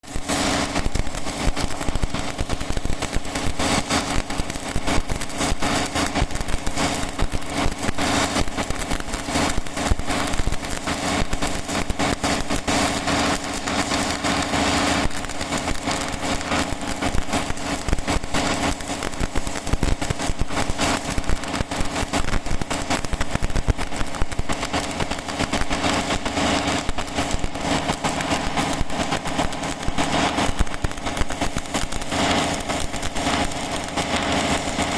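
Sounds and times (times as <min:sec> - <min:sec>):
welding arc crackling sizzle: 0:00.0 - 0:34.9
constant hum: 0:00.1 - 0:34.9.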